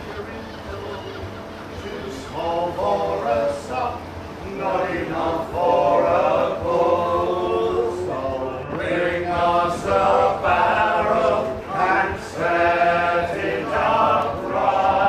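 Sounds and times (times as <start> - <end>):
men singing unaccompanied: 1.7 - 15.0.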